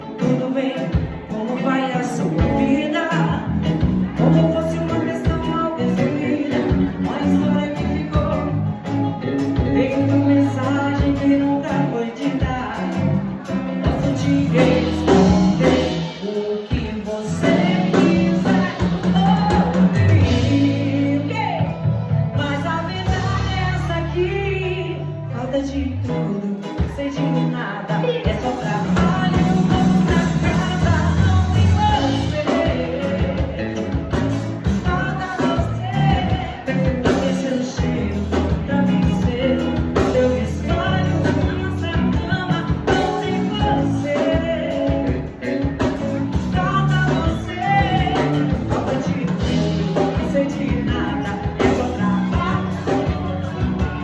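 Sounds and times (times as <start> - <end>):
samba band playing live: 0.0 - 24.4, 25.9 - 54.0.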